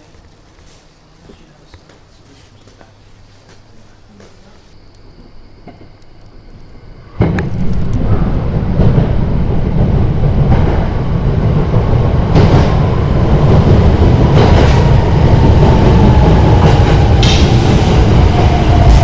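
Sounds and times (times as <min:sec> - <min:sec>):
electric train rumbling in tunnel: 0:00.0 - 0:19.0.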